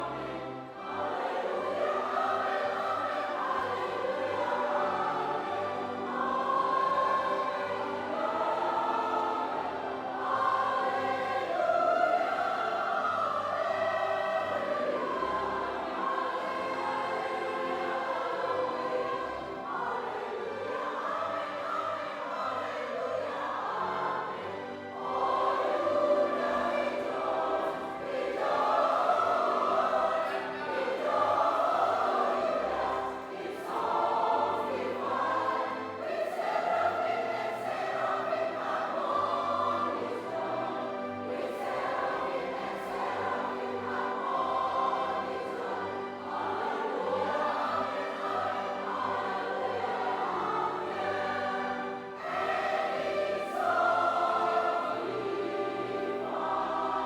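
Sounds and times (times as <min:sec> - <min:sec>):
choir singing in parts: 0:00.0 - 0:57.0.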